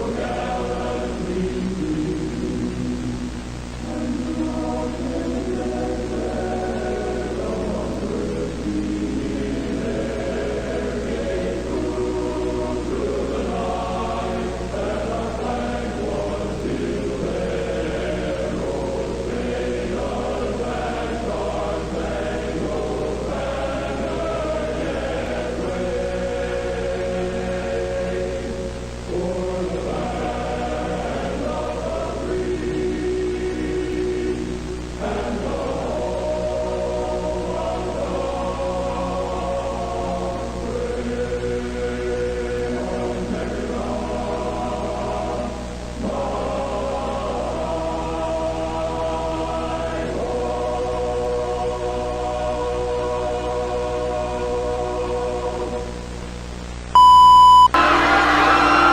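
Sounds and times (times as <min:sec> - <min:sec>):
choir-like chanting: 0:00.0 - 0:03.2, 0:03.8 - 0:56.1, 0:57.8 - 0:58.9.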